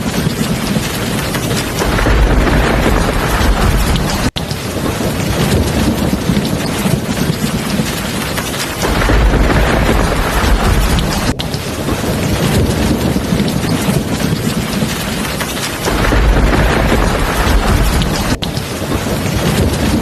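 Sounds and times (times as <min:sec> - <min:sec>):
heavy rain falling: 0:00.0 - 0:20.0
low thunder rumble: 0:00.0 - 0:20.0.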